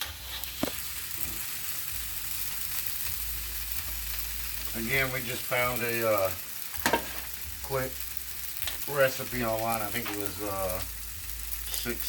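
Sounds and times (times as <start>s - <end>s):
rice sizzling on a griddle: 0.0s - 12.0s.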